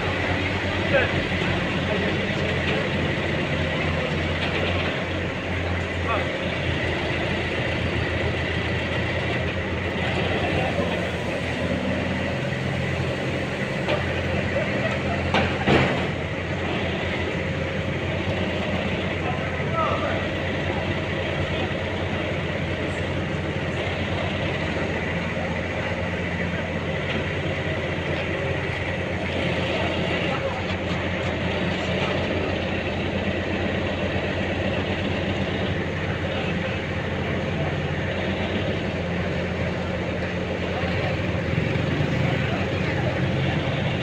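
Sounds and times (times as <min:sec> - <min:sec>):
heavy machinery engine drone: 0:00.0 - 0:44.0.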